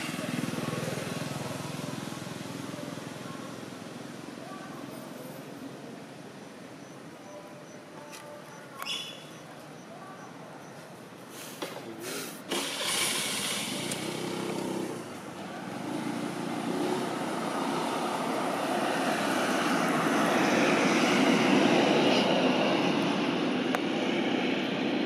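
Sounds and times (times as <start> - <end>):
distant engine drone: 0.0 - 25.0.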